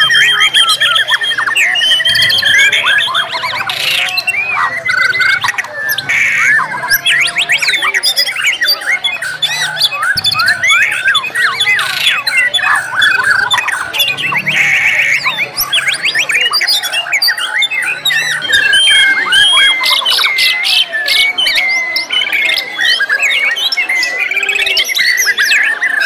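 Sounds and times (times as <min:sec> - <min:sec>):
birds singing whistled trills: 0:00.0 - 0:26.0.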